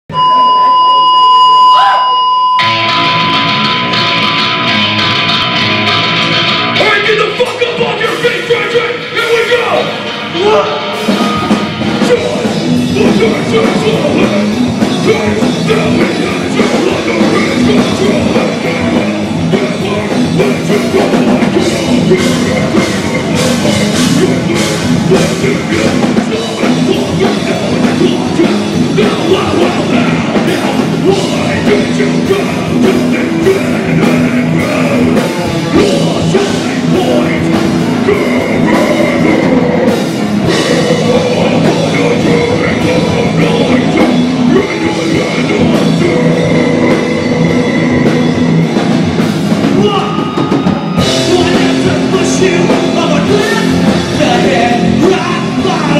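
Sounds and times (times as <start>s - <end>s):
bass guitar: 0.0s - 55.9s
distorted electric guitars: 0.0s - 55.9s
drum kit: 2.6s - 55.9s
person singing into a microphone: 6.8s - 48.8s, 49.6s - 55.9s.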